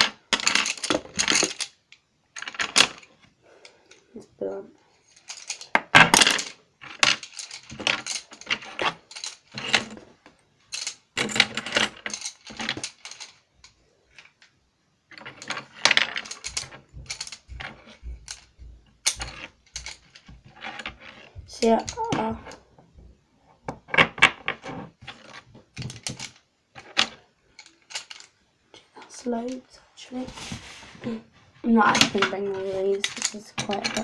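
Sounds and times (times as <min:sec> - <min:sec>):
wooden pencils clattering: 0:00.0 - 0:04.3, 0:05.0 - 0:34.0.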